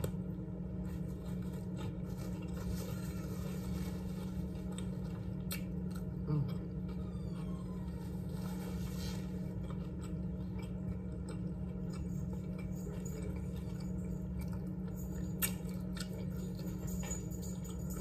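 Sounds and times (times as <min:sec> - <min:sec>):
person chewing: 0:00.0 - 0:07.4, 0:08.1 - 0:18.0
low hum: 0:00.0 - 0:18.0.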